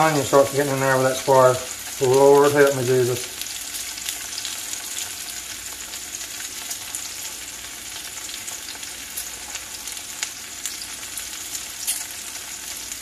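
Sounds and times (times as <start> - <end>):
squash sizzling in hot oil: 0.0 - 13.0.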